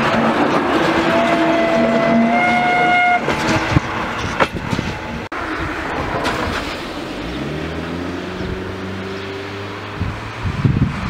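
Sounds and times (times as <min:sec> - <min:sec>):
train coaches rolling past: 0:00.0 - 0:11.0.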